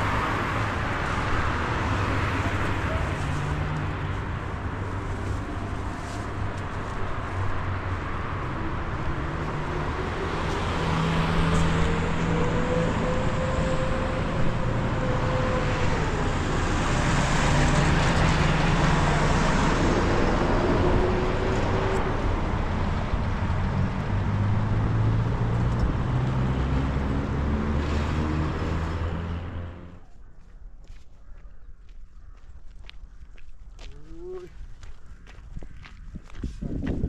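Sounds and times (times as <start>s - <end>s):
road and wind noise: 0.0s - 37.0s
vehicle engine hum: 0.0s - 37.0s.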